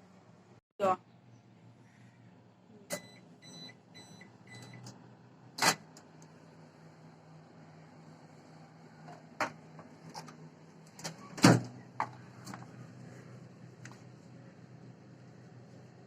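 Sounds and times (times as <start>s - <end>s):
microwave oven humming: 1.5s - 16.0s.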